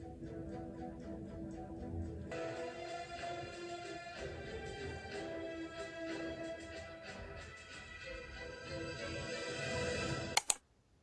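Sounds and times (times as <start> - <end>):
background music: 0.0 - 10.6.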